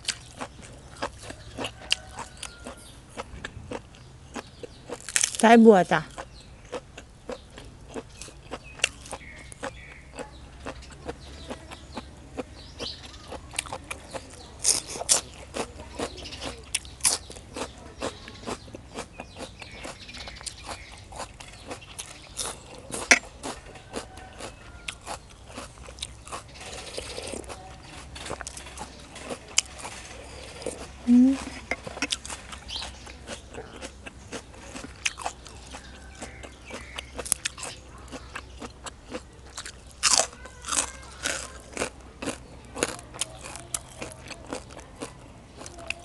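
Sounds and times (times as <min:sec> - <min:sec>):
chewing crunchy food: 0:00.0 - 0:46.0.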